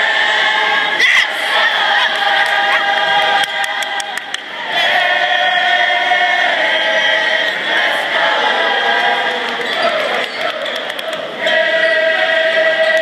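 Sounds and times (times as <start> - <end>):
crowd singing and chanting: 0.0 - 13.0.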